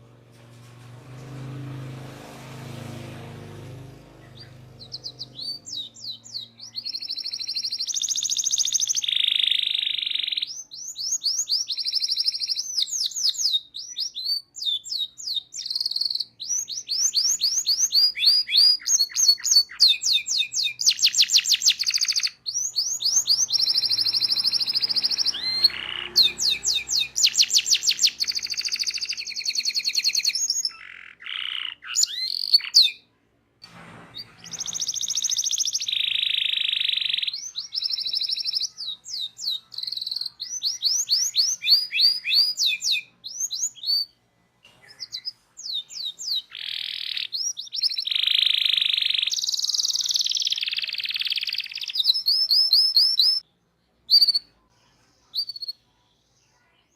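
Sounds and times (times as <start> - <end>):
canary singing trills: 2.6 - 33.1, 34.2 - 56.9.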